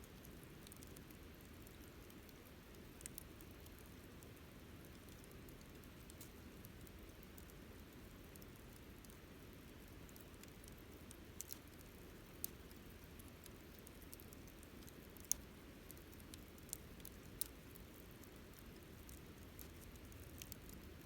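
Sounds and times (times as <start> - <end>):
wood crackling and popping: 0.1 - 21.0.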